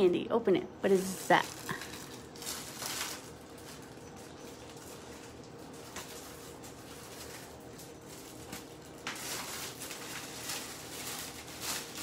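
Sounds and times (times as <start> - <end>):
plastic wrappers crinkling: 0.8 - 12.0.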